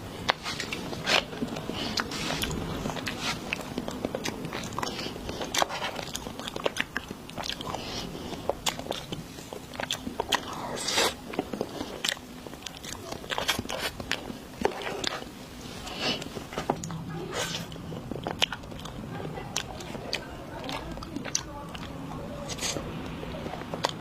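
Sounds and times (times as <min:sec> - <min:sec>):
chewing with sharp crunches: 0:00.0 - 0:24.0.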